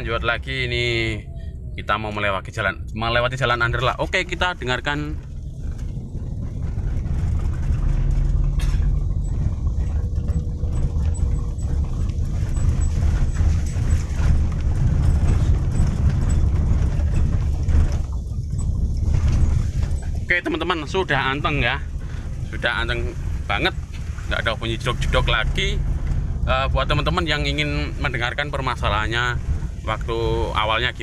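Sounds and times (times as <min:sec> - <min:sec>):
tyre rumble and body vibration: 0:01.6 - 0:31.0.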